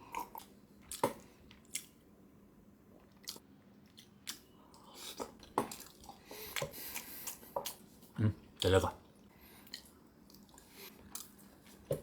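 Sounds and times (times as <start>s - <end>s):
person chewing with wet smacks: 0.1s - 2.0s, 3.0s - 8.9s, 9.6s - 12.0s.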